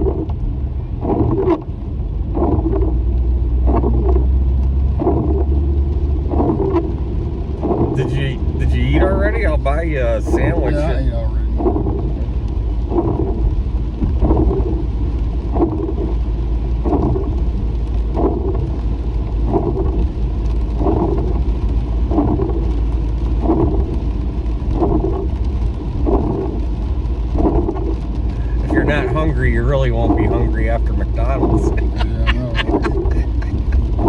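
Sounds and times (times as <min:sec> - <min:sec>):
low road rumble: 0:00.0 - 0:34.0
rain on car: 0:00.0 - 0:34.0
windshield wipers sweeping: 0:00.0 - 0:34.0.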